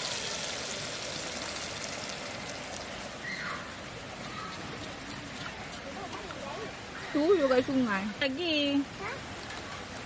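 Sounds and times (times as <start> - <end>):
rushing water: 0.0 - 10.0.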